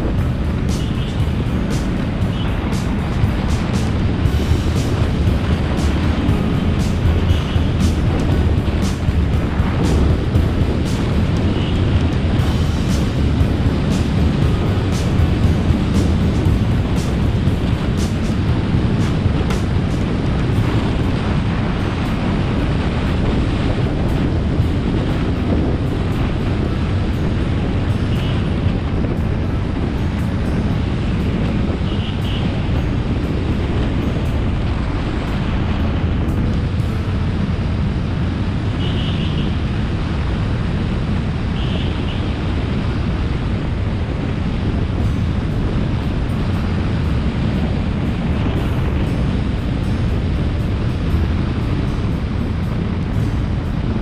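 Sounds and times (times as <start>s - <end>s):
vehicle and tyres running: 0.0s - 54.0s
wind buffeting microphone: 0.0s - 54.0s.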